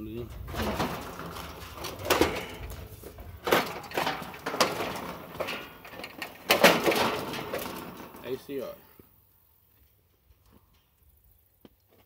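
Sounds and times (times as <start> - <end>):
rustles: 0.0 - 12.0.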